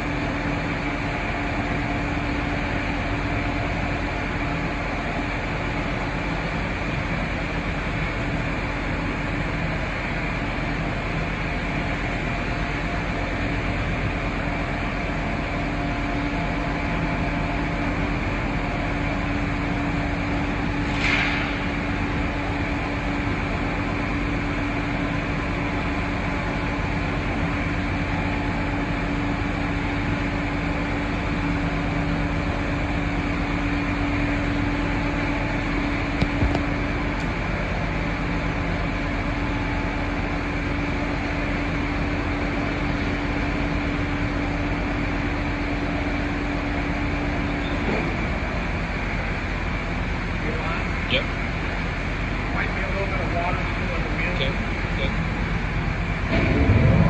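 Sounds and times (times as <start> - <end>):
grinder mechanical hum: 0.0 - 57.0.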